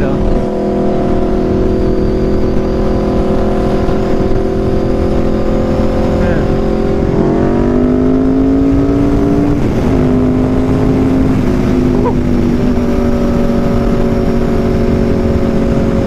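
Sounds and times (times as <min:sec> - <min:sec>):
motorcycle engine at speed: 0:00.0 - 0:16.0
wind noise on microphone: 0:00.0 - 0:16.0.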